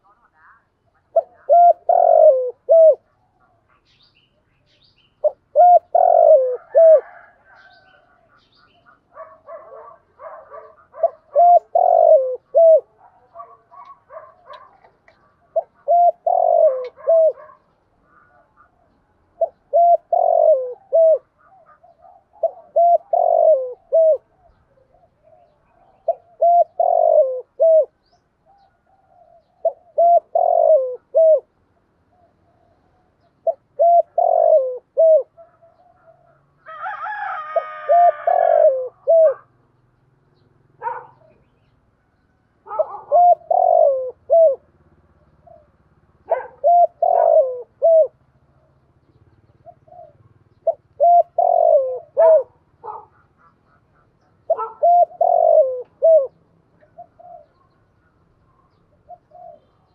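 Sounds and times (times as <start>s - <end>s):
dove cooing: 0.0s - 3.8s, 5.1s - 39.6s, 40.8s - 41.7s, 42.6s - 59.9s.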